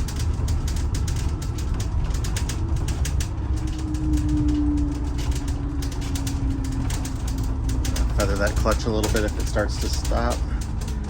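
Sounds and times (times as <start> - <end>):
diesel engine clatter and rumble: 0.0 - 11.0
steady engine whine: 0.0 - 11.0.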